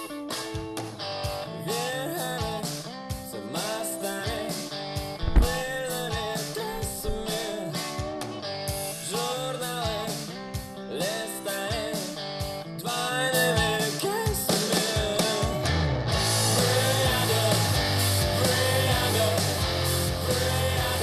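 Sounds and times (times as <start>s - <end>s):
song with guitar and singing: 0.0s - 21.0s.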